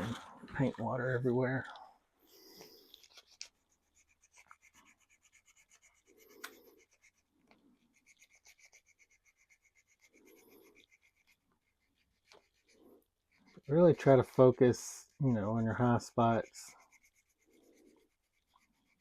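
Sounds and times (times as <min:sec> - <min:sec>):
hand sanding plastic: 0:02.9 - 0:19.0.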